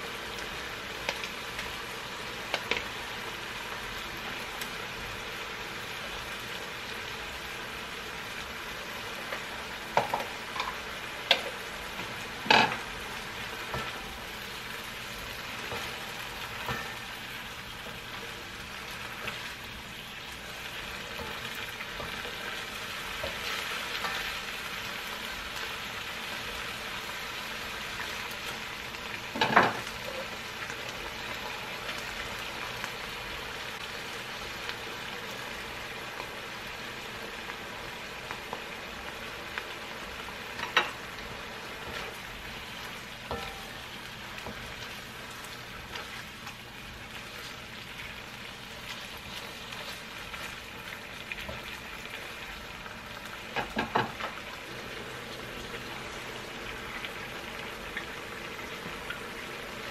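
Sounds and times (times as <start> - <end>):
food sizzling in a wok: 0.0 - 59.9.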